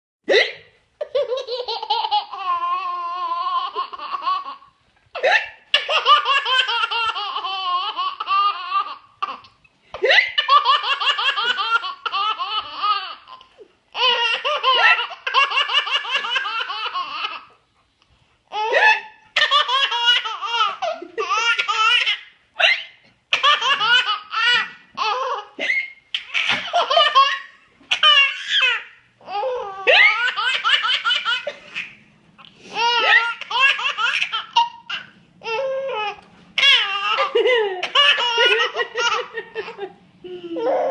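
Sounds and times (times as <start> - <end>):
baby laughing hard: 0.3 - 17.6, 18.5 - 32.0, 32.7 - 40.9.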